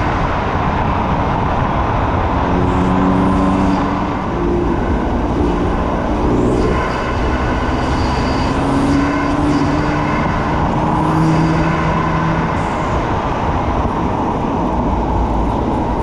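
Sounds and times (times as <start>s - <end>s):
car engine pulling: 0.0s - 16.0s
road and wind noise: 0.0s - 16.0s.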